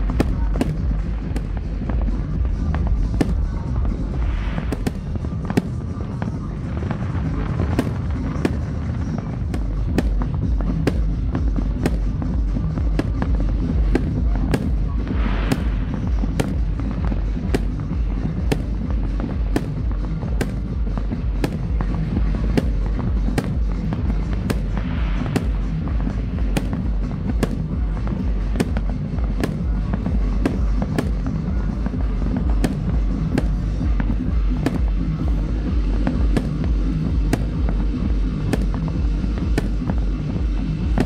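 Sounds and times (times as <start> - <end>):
fireworks banging and booming: 0.0 - 41.0
fireworks crackling: 0.0 - 41.0
music with steady beat: 0.0 - 41.0.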